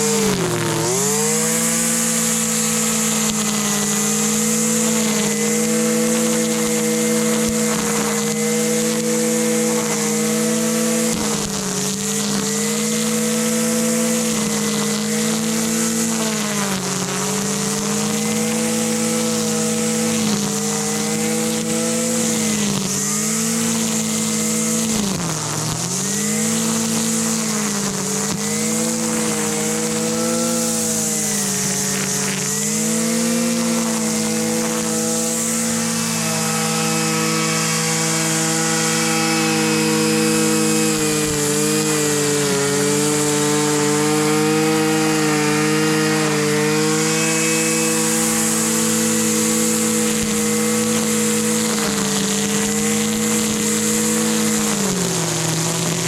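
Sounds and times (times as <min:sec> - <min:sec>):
string trimmer engine running: 0:00.0 - 0:56.0.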